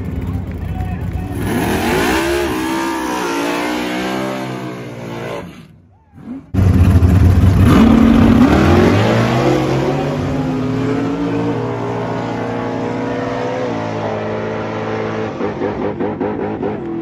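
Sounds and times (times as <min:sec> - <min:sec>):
drag car accelerating: 0:00.0 - 0:17.0.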